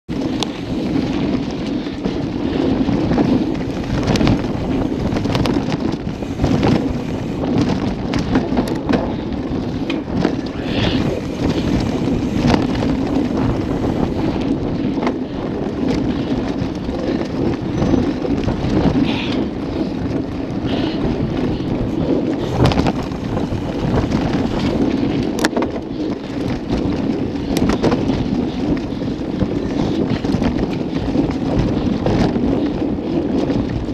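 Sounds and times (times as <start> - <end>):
wind on microphone: 0.0 - 33.9
bike knocking and rattling: 0.1 - 33.9.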